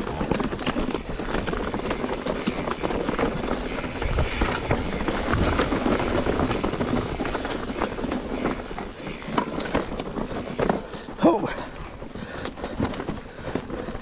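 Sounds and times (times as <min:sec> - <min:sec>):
bike rattling: 0:00.0 - 0:14.0
tyres crunching on loose ground: 0:00.0 - 0:14.0
wind rumbling on microphone: 0:00.0 - 0:14.0.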